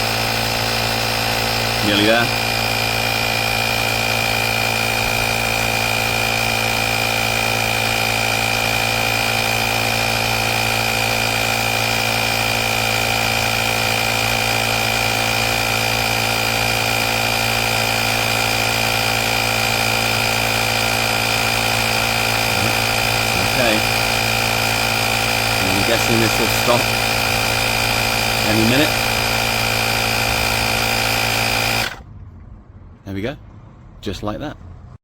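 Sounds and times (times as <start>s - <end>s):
air compressor humming and whining: 0.0s - 32.2s.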